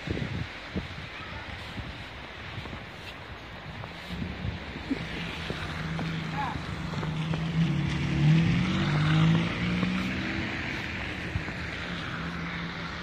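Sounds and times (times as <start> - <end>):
traffic on a slushy road: 0.0 - 13.0.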